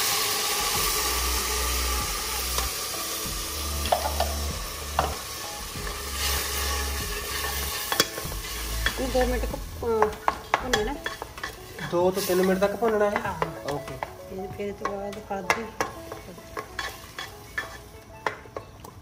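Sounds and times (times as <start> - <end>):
paste sizzling in hot oil: 0.0 - 18.1.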